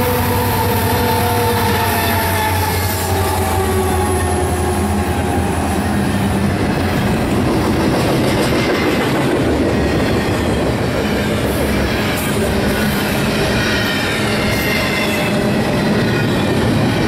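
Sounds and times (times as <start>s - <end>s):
diesel locomotive drone: 0.0s - 17.0s
train wheels rumbling on rails: 0.0s - 17.0s.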